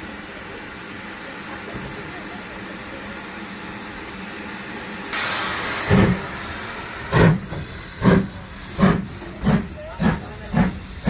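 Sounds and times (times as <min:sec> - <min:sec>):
steam hissing: 0:00.0 - 0:11.0
steam locomotive chuffing: 0:00.0 - 0:11.0.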